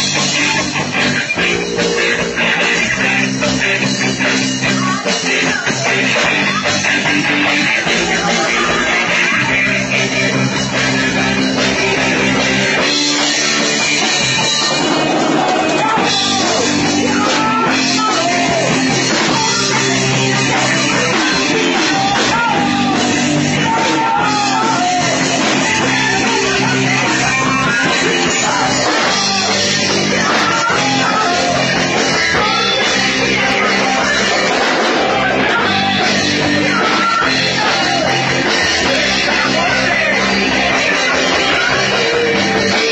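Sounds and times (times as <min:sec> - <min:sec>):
bass guitar: 0:00.0 - 0:42.9
drum kit: 0:00.0 - 0:42.9
electric guitar: 0:00.0 - 0:42.9
person singing: 0:00.0 - 0:42.9.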